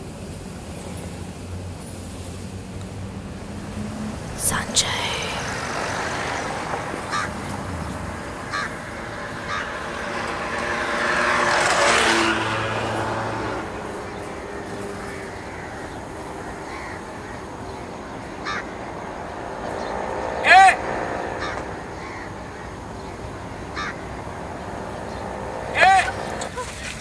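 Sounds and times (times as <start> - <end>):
road traffic: 0.0 - 27.0
vehicle passing: 0.3 - 27.0.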